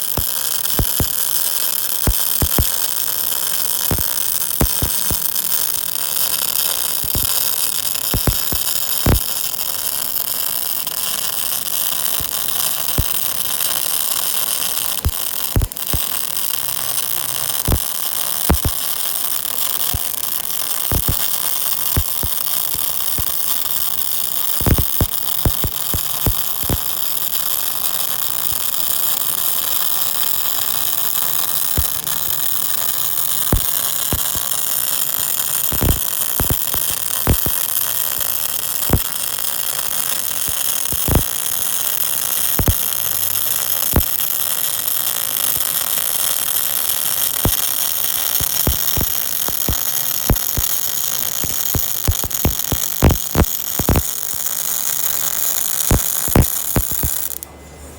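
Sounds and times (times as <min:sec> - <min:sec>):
welding arc hissing and popping: 0:00.0 - 0:57.4.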